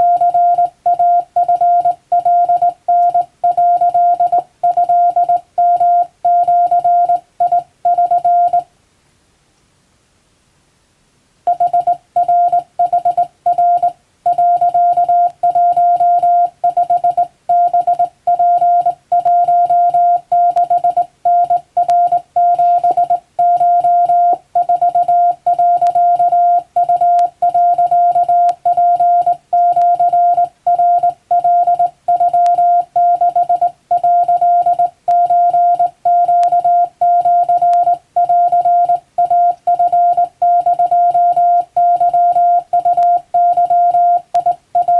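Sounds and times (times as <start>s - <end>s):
morse code beeps: 0.0s - 8.7s, 11.5s - 44.9s.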